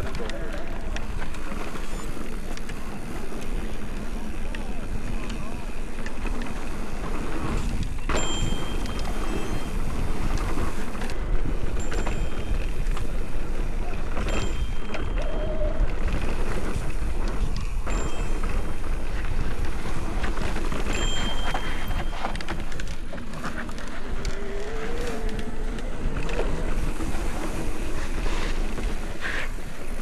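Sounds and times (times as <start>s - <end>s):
bike rattling: 0.0s - 30.0s
bike tyres on dirt trail: 0.0s - 30.0s.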